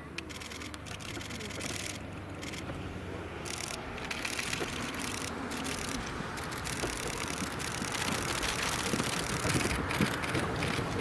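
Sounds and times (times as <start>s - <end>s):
diesel railcar engine rumble: 0.0s - 11.0s.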